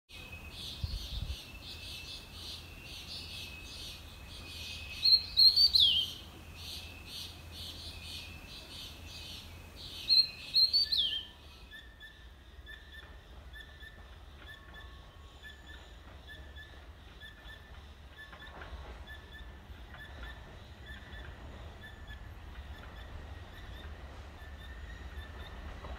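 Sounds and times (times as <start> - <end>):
birds chirping: 0.1 - 25.9.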